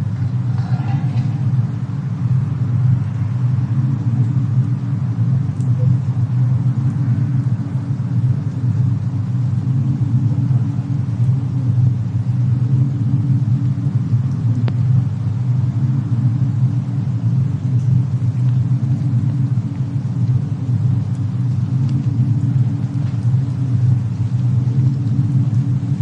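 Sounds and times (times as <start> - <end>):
fire crackles and pops: 0.0 - 26.0
wind rumbling: 0.0 - 26.0.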